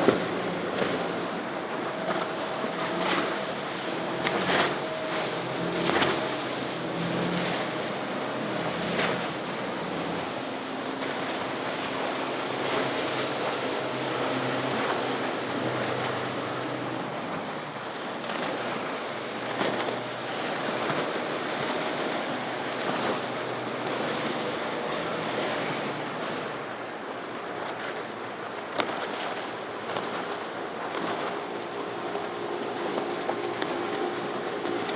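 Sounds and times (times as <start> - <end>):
boat engines humming: 0.0 - 34.9
waves washing: 0.0 - 34.9.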